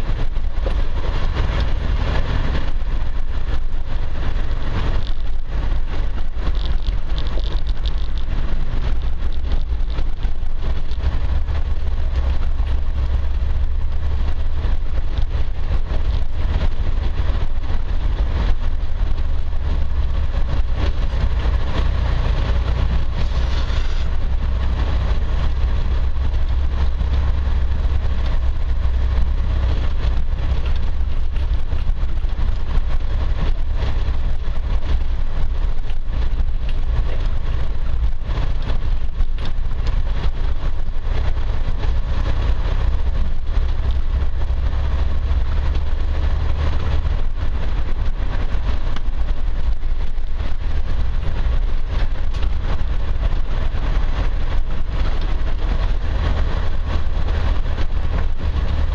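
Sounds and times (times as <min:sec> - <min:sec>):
engine drone: 0:00.0 - 0:58.9
tyres rumbling on gravel: 0:00.0 - 0:58.9.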